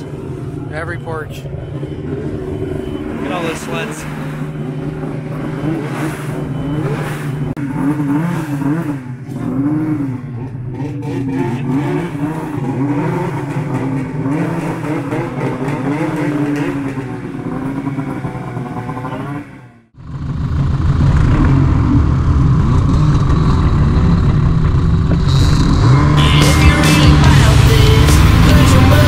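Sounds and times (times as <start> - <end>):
snowmobile engine revving: 0.0 - 29.0.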